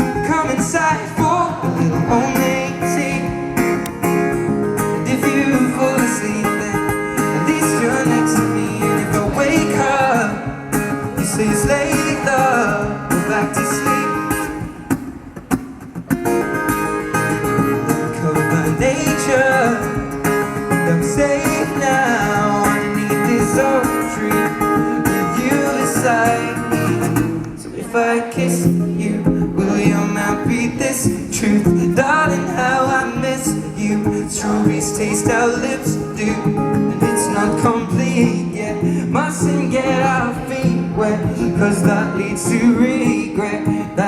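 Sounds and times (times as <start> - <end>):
man singing: 0.0 - 4.1, 4.8 - 14.6, 17.5 - 44.0
acoustic guitar: 0.0 - 44.0.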